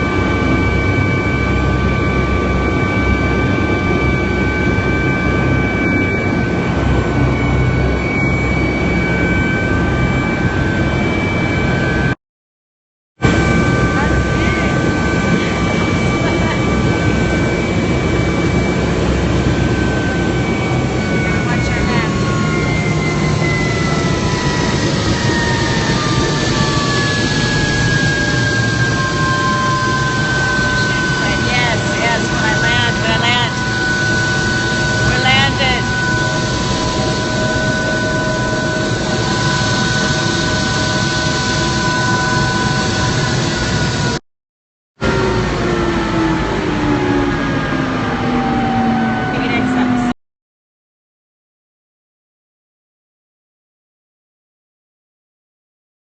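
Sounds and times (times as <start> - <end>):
helicopter engine and rotor drone: 0.0 - 12.2, 13.2 - 44.2, 45.0 - 50.1
high-pitched whines: 0.0 - 12.2, 13.2 - 44.2, 45.0 - 50.2.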